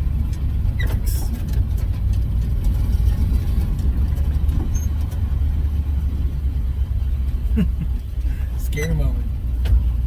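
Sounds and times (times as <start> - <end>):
pickup truck engine rumble: 0.0 - 10.0.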